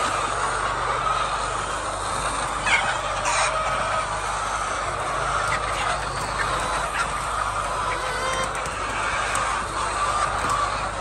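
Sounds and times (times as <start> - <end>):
flock of hens clucking: 0.0 - 11.0.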